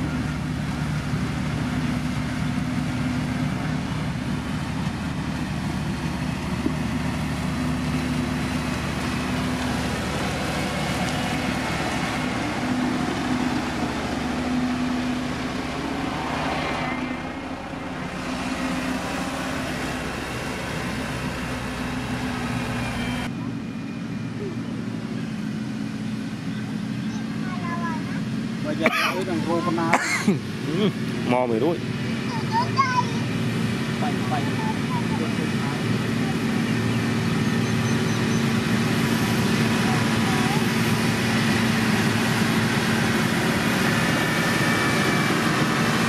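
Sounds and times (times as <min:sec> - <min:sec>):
diesel engine running under load: 0:00.0 - 0:46.0
road roller engine running: 0:00.0 - 0:46.0.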